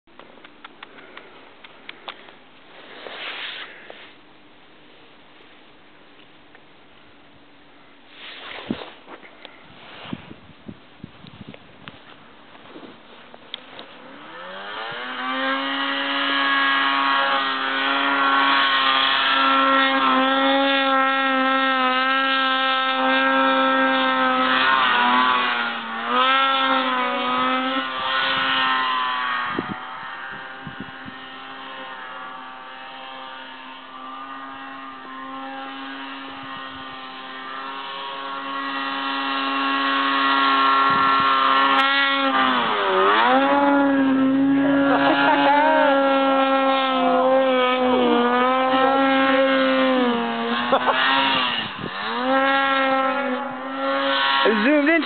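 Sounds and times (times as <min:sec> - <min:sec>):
snowmobile engine high revs: 0:01.9 - 0:04.2, 0:08.1 - 0:55.0.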